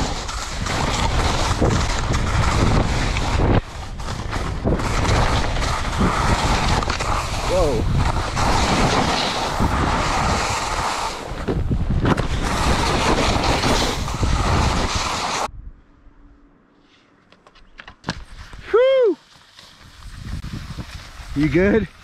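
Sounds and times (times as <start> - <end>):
skis scraping on snow: 0.0 - 15.5, 19.2 - 22.0
wind rushing over microphone: 0.0 - 15.8, 20.0 - 22.0.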